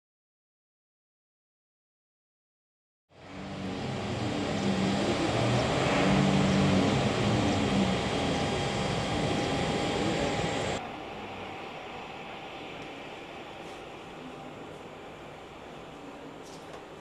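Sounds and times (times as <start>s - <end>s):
jet engines running: 3.1s - 17.0s.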